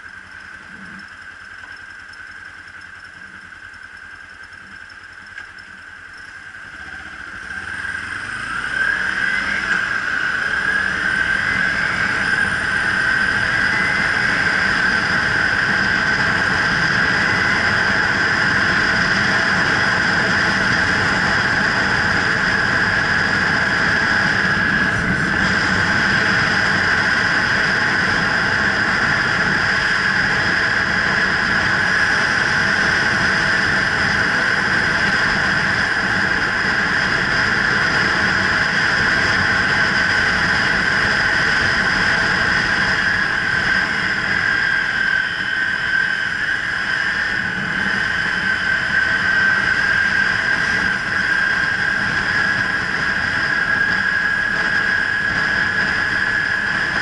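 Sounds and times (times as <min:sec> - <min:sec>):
motorcycle engine running: 0:00.0 - 0:57.0
rushing wind: 0:06.8 - 0:57.0.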